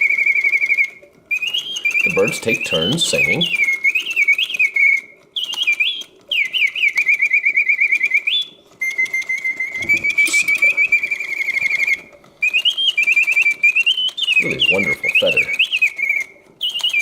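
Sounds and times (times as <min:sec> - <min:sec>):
mechanical bird whistle chirping: 0:00.0 - 0:17.0.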